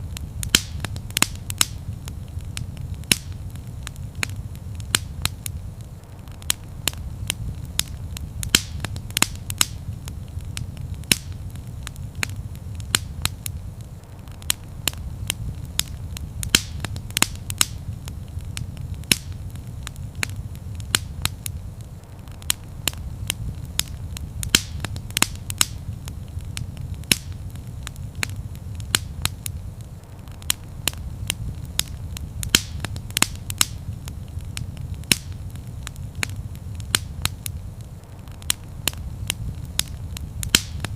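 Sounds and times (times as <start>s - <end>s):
low rumble of burning fire: 0.0s - 40.9s
wood fire crackling and popping: 0.0s - 40.9s.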